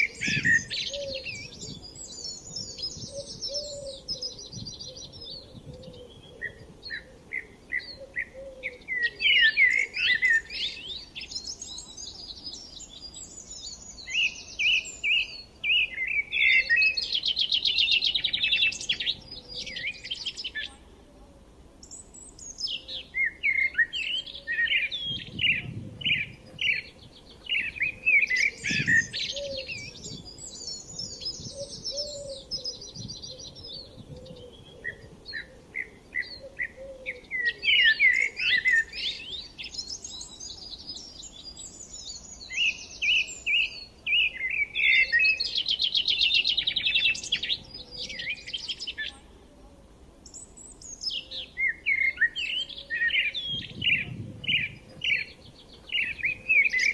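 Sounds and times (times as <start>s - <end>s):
songbirds singing and chirping: 0.0s - 56.9s.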